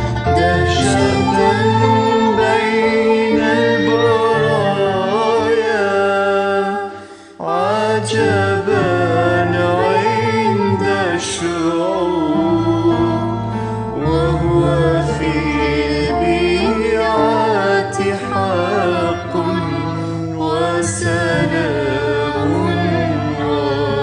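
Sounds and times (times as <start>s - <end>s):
hymn sung with instruments: 0.0s - 24.0s.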